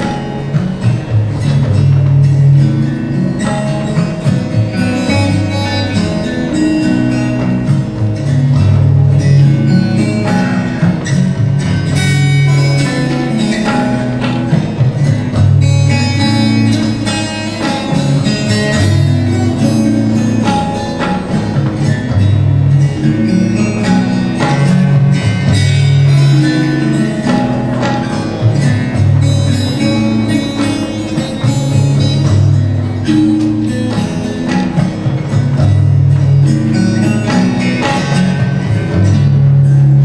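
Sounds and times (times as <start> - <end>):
plucked acoustic guitar: 0.0 - 40.0.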